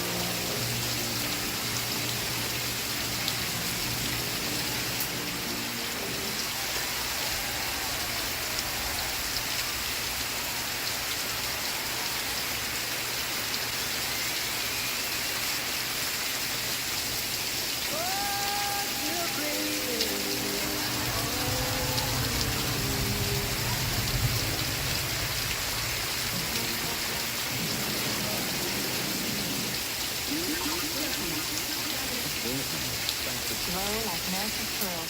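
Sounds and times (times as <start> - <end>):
steady rain hissing: 0.0 - 35.0.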